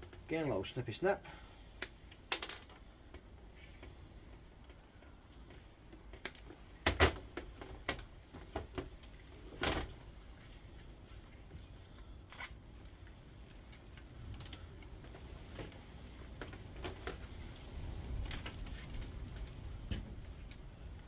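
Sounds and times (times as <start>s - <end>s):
rustling of wire: 1.6s - 21.0s.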